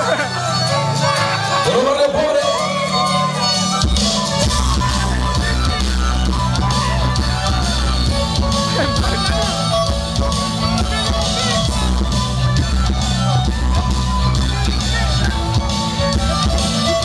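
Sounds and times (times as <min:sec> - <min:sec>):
loud rock music over speakers: 0:00.0 - 0:17.0.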